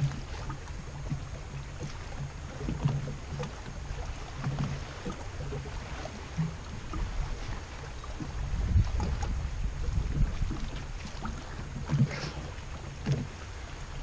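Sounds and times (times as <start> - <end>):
light wind: 0.0 - 14.0
water lapping against boat hull: 0.0 - 14.0.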